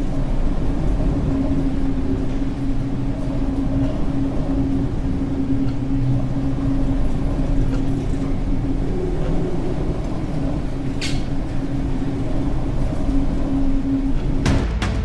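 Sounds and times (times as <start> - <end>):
low machinery drone: 0.0 - 15.0.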